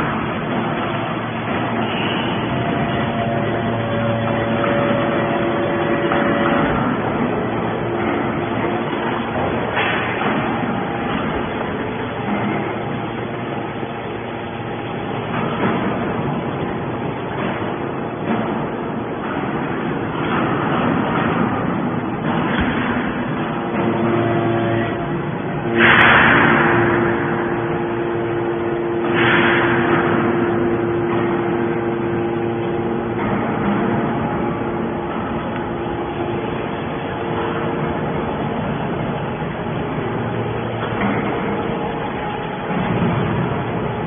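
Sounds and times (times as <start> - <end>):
hydraulic baler droning: 0.0 - 44.0.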